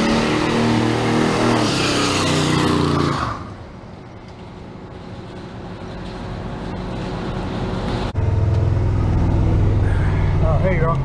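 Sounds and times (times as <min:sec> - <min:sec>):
pickup truck engine and road noise: 0:00.0 - 0:11.0.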